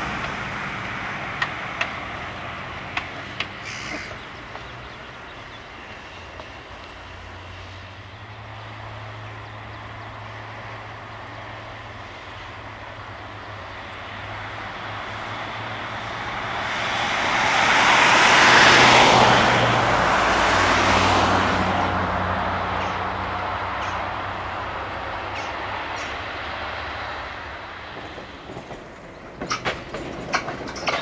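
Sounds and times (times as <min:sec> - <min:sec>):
tram wheels rumbling on rail: 0:00.0 - 0:31.0.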